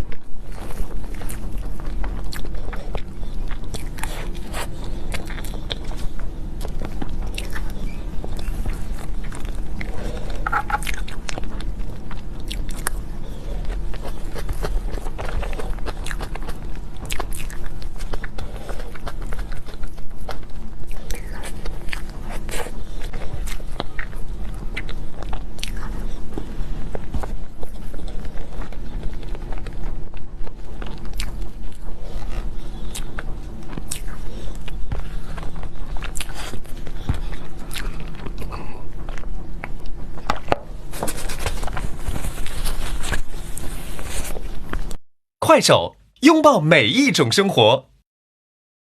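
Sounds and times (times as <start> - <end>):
person chewing cake: 0.0 - 45.0
steady low hum: 0.0 - 47.5.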